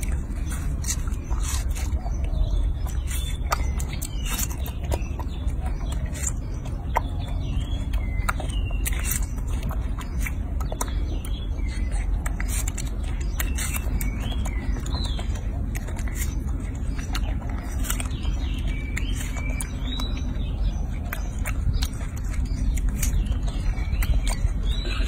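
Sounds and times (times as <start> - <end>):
birds chirping: 0.0 - 25.0
low steady rumble: 0.0 - 25.0
monkey chewing watermelon: 0.0 - 25.0.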